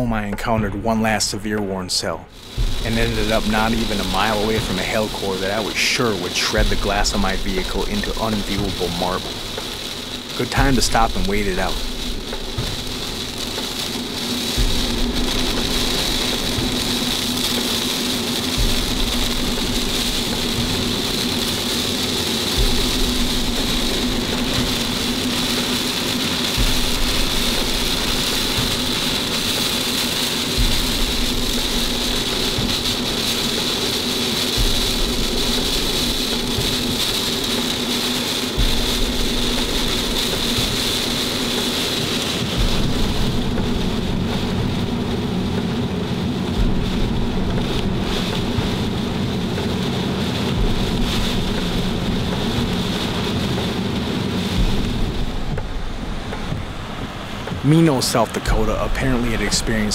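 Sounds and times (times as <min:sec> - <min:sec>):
heavy rain on vehicle: 0:00.0 - 0:59.9.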